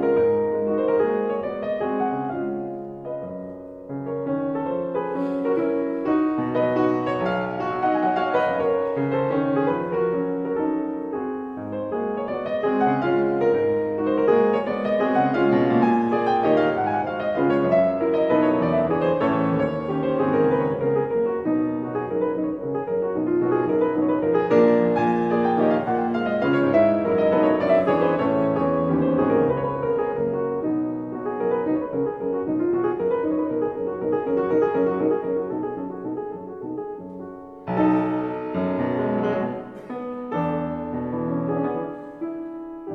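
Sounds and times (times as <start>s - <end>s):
slow piano music: 0.0s - 42.9s.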